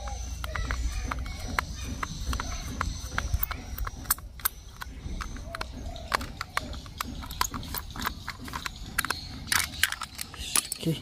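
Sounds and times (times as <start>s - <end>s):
screwdriver clicking on hard plastic: 0.0s - 10.8s.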